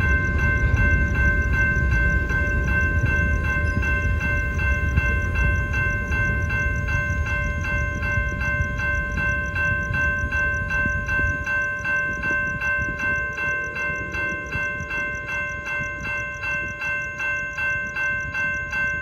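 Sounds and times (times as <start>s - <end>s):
freight train rumbling: 0.0s - 19.0s
railroad crossing bell ringing: 0.0s - 19.0s.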